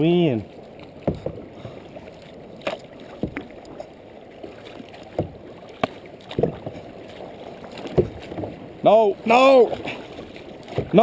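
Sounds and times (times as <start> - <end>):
paddle blades splashing water: 0.0 - 11.0
rushing water: 0.0 - 11.0
wind: 0.0 - 11.0.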